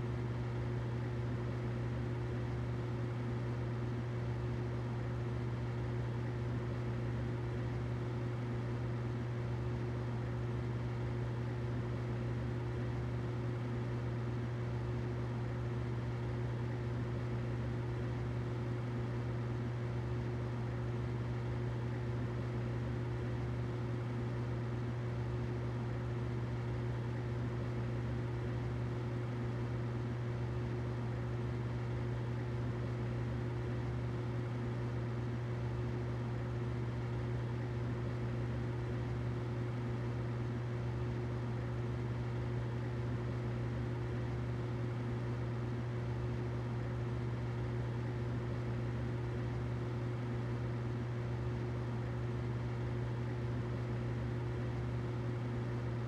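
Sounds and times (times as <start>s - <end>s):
humidifier humming: 0.0s - 56.0s.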